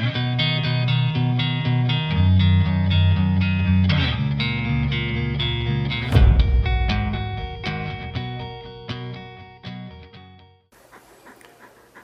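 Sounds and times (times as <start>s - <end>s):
plucked guitar music: 0.0s - 10.4s.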